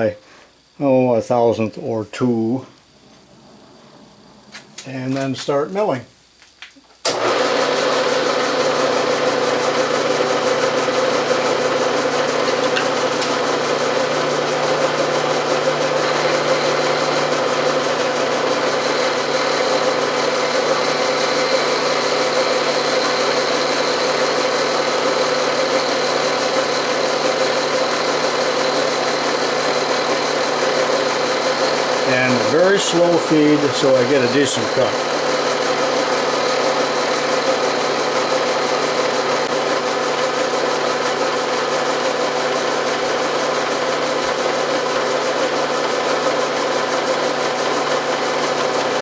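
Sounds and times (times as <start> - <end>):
milling machine humming: 0.6 - 6.0, 7.0 - 49.0.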